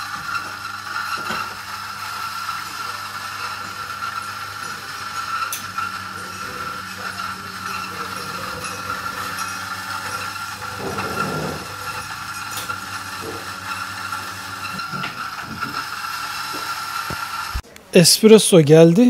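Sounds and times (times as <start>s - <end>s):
espresso machine pump hissing: 0.0s - 17.6s.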